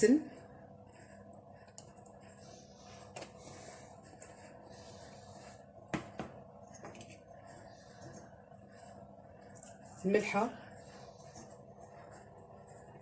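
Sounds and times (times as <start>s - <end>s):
soft scraping and rubbing: 0.9s - 5.9s, 6.5s - 13.0s.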